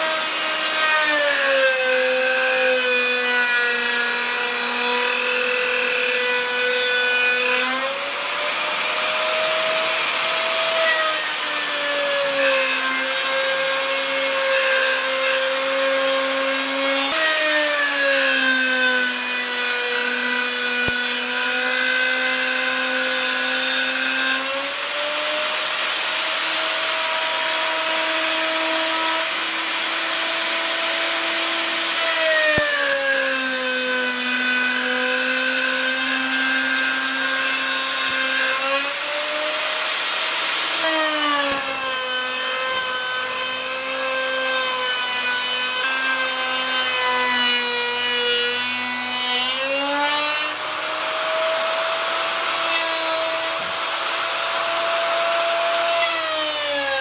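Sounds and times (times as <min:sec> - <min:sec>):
electric router cutting wood: 0:00.0 - 0:57.0.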